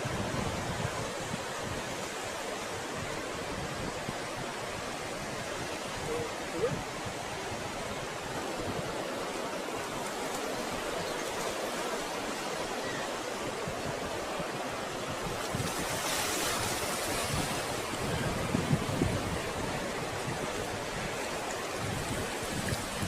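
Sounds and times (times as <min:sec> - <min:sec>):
ocean surf washing ashore: 0:00.0 - 0:23.0.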